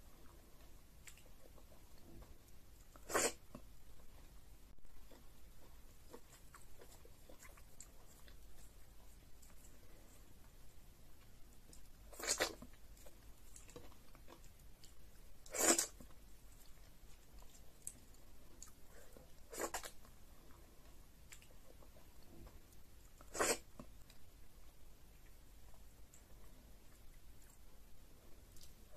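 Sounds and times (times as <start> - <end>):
faint chewing: 0.0 - 28.9.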